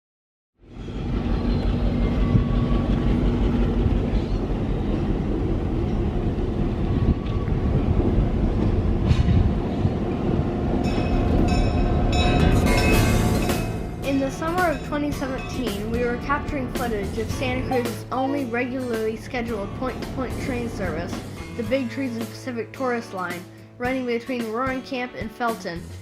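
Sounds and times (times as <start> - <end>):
diesel train rumbling past: 0.6 - 21.7.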